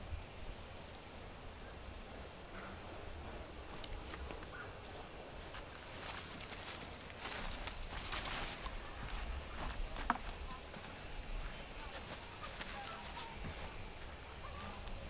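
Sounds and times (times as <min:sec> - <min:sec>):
hissing rustle: 0:00.0 - 0:15.0.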